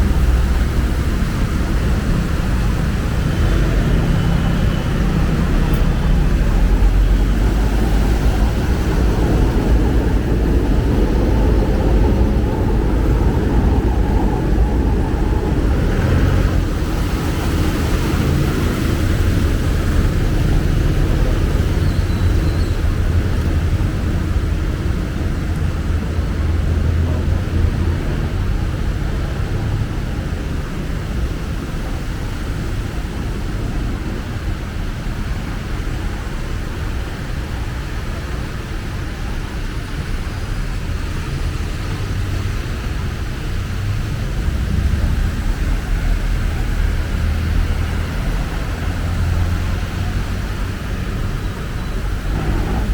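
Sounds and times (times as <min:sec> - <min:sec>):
street traffic rumble: 0:00.0 - 0:52.9.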